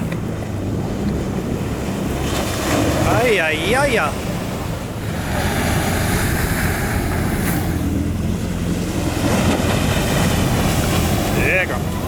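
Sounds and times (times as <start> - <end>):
boat engine humming: 0.0 - 12.0
wind noise on microphone: 0.0 - 12.0.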